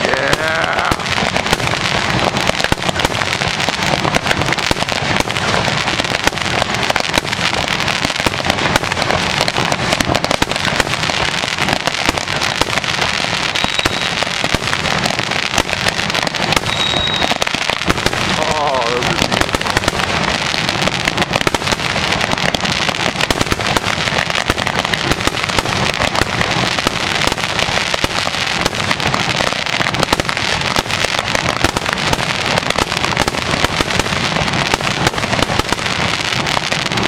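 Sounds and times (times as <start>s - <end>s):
fireworks crackling: 0.0s - 37.0s.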